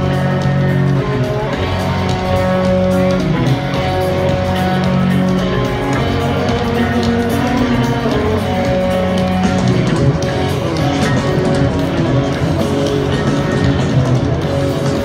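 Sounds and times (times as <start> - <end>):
electric guitar: 0.0 - 15.0
rock band through a pa: 0.0 - 15.0.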